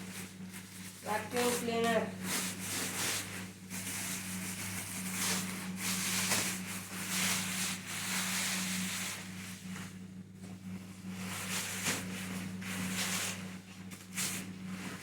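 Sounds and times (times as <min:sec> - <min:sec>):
rustling handling noises: 0:00.0 - 0:15.0
steady low hum: 0:00.0 - 0:15.0.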